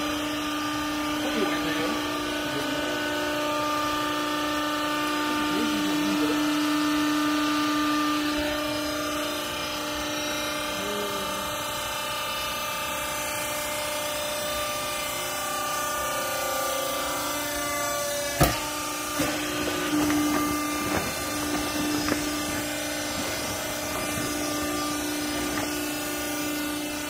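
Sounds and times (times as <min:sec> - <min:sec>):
baler motor and pump humming: 0:00.0 - 0:27.0.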